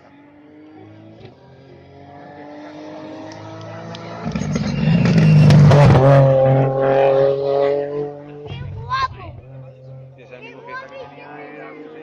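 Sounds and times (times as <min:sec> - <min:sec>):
rally car engine approaching: 0:00.0 - 0:12.0.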